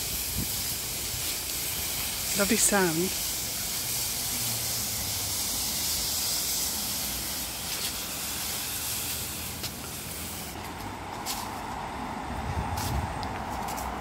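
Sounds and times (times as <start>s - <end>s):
broom sweeping leaves on stone: 0.0s - 11.8s, 12.7s - 14.0s.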